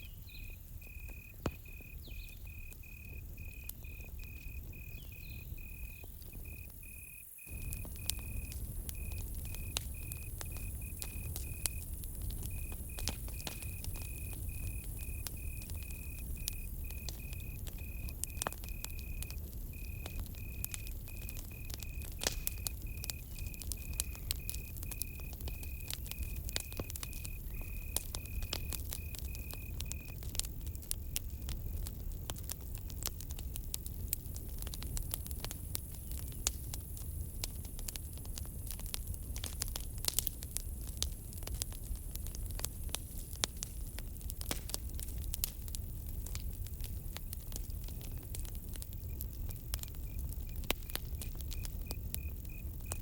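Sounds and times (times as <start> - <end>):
cricket chirping: 0.0 - 31.9, 34.0 - 53.0
campfire crackling and popping: 0.0 - 53.0.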